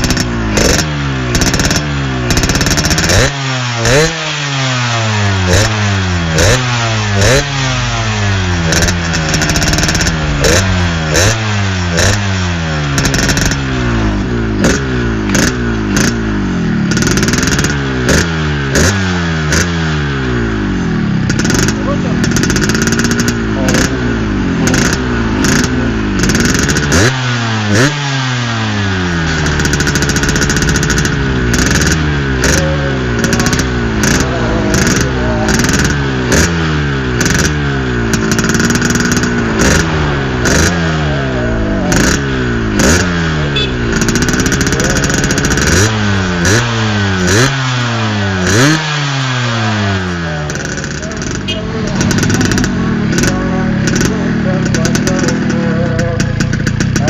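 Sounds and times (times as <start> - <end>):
exhaust crackles: 0.0 - 57.0
motorcycle engine revving: 0.0 - 57.0.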